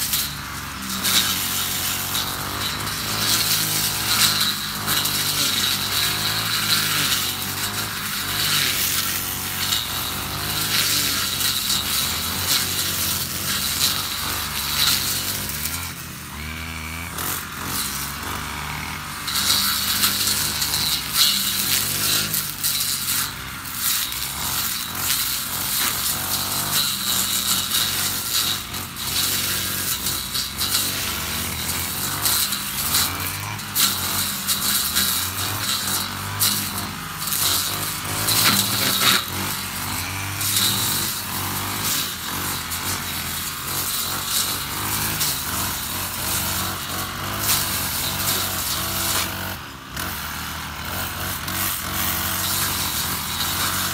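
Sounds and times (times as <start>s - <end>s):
blade cutting tall grass: 0.0s - 53.9s
brushcutter engine running: 0.0s - 53.9s.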